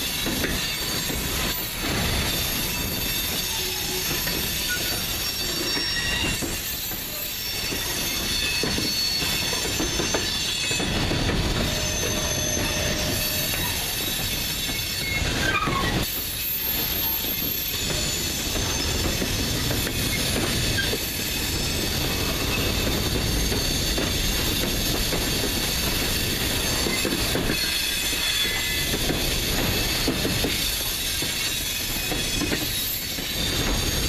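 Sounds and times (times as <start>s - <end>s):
high wheel squeal: 0.0s - 34.0s.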